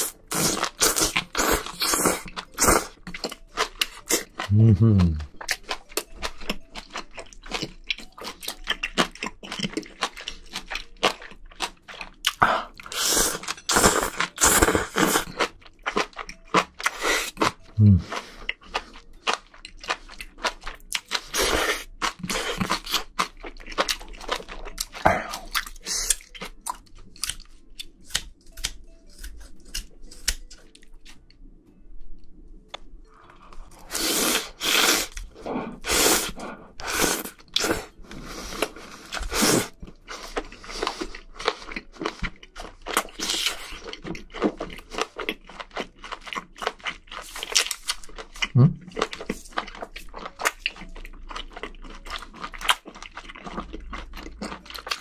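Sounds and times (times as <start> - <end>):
person chewing food: 0.0 - 31.5, 32.8 - 55.0.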